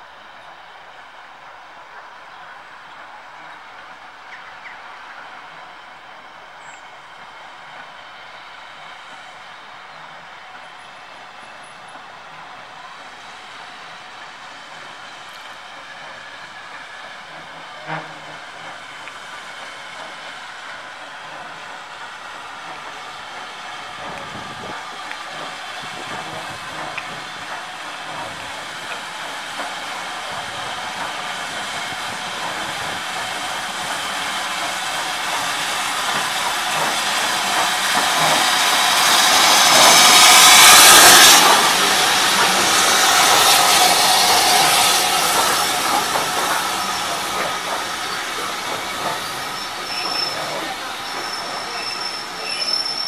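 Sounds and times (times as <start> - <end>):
steam locomotive approaching: 0.0 - 53.0
loud hiss of steam: 4.9 - 53.0.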